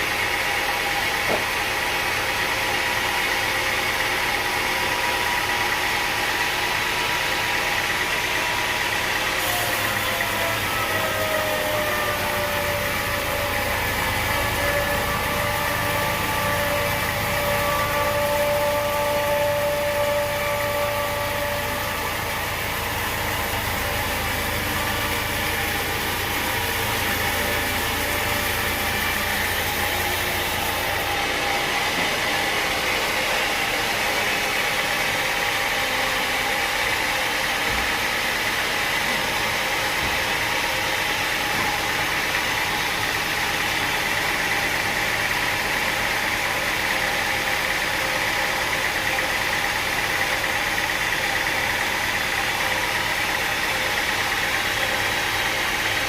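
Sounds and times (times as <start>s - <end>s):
high machine whine: 0.0s - 56.0s
sawmill machinery drone: 0.0s - 56.0s.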